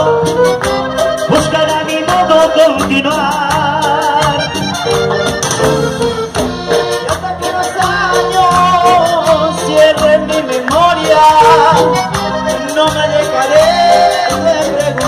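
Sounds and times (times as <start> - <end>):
accordion melody: 0.0 - 15.0
electric bass: 0.0 - 15.0
steady percussion: 0.0 - 15.0.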